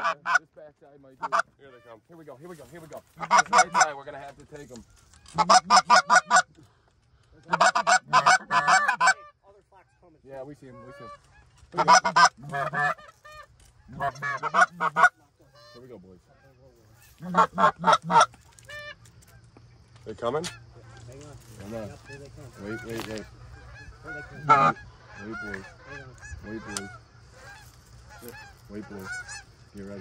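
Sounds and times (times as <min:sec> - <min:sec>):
goose honking: 0:00.0 - 0:06.6, 0:07.3 - 0:30.0.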